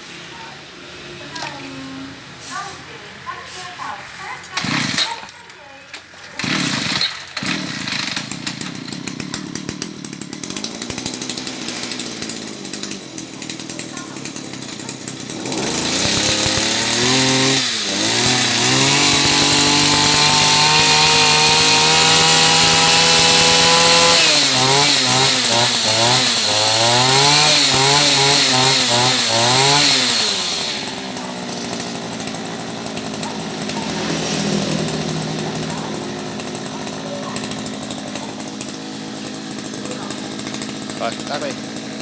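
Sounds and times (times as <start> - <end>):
brush cutter engine revving: 0.9 - 42.0.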